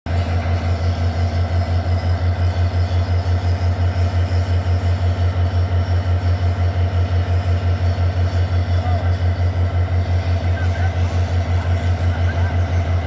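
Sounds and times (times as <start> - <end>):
diesel locomotive engine idling: 0.1 - 13.0.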